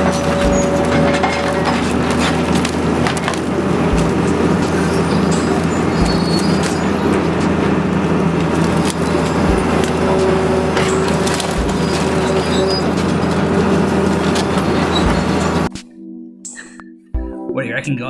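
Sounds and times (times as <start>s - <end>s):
excavator engine under load: 0.0s - 15.7s
timber cracking and splintering: 0.0s - 15.7s.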